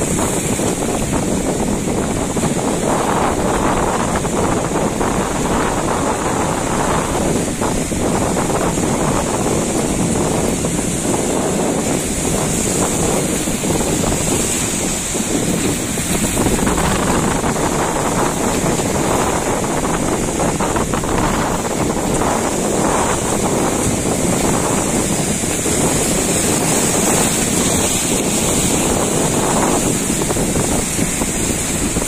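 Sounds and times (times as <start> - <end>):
rough sea waves: 0.0 - 32.0
wind buffeting microphone: 0.0 - 32.0.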